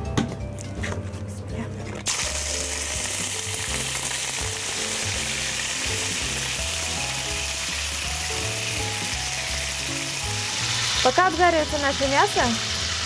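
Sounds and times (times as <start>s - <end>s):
meat sizzling in frying pan: 2.1s - 13.0s.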